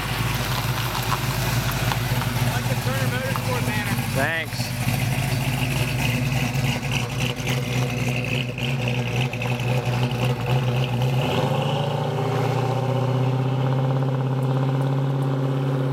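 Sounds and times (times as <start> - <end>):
car exhaust rumbling: 0.0 - 15.9.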